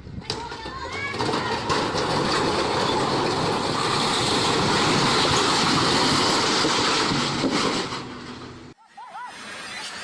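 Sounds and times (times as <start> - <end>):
heavy vehicle noise: 0.2 - 8.8.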